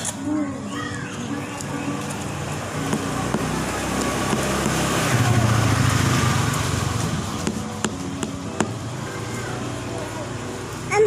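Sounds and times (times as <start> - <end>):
vehicle passing by: 1.3 - 11.0.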